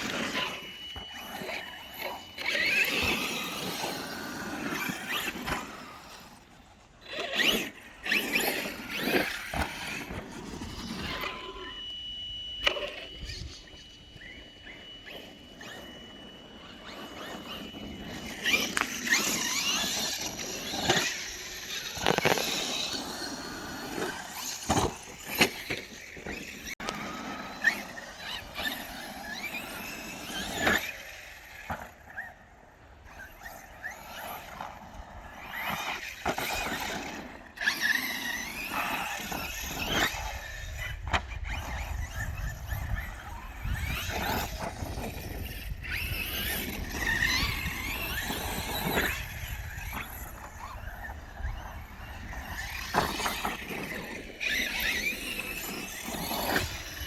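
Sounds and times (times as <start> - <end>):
rc truck motor whine: 0.0 - 57.0.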